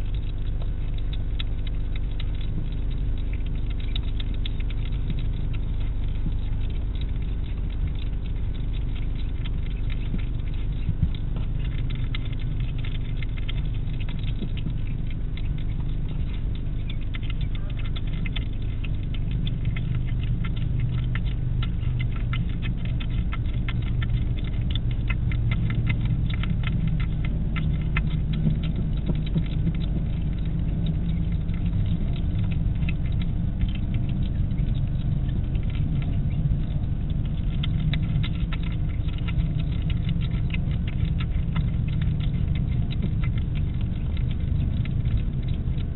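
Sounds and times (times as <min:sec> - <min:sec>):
hedgehog chewing clicks: 0:00.0 - 0:45.9
steady low hum: 0:00.0 - 0:45.9.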